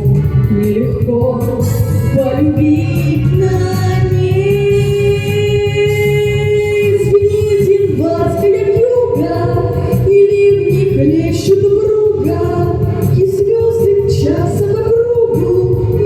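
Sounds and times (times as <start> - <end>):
instrumental backing track: 0.0 - 16.0
person singing: 0.0 - 16.0.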